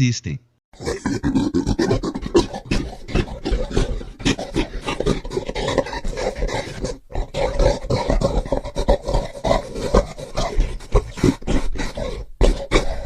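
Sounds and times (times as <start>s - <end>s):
gorilla grunting and roaring: 0.8s - 13.0s.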